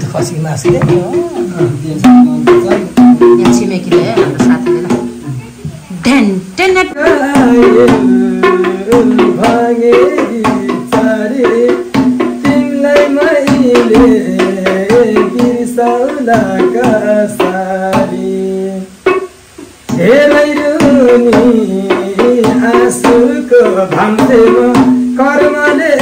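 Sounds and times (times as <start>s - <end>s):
tabla strikes: 0.0s - 26.0s.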